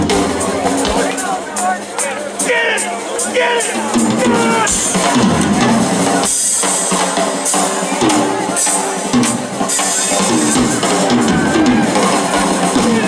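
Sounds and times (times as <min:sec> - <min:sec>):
drum kit with cymbal crashes: 0:00.0 - 0:13.0
rock band playing live: 0:00.0 - 0:13.0.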